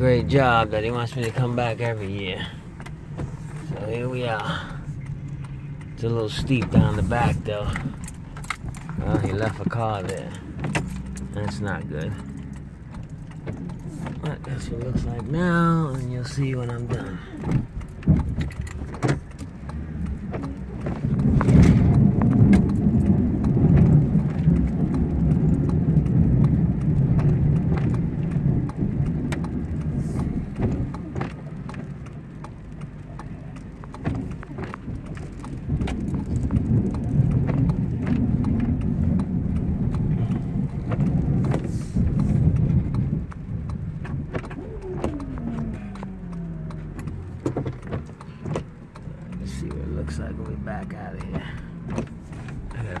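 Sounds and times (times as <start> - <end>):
clicks and rattles: 0.0 - 53.0
truck engine rumble: 0.0 - 53.0.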